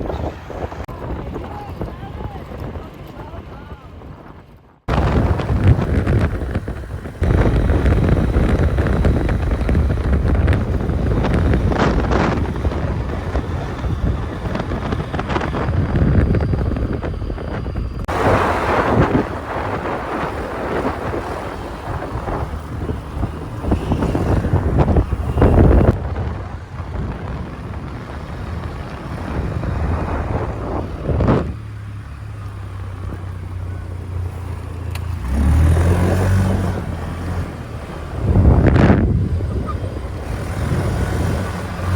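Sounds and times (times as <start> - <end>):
small vehicle engine running: 0.0 - 41.9
wind buffeting microphone: 0.0 - 41.9.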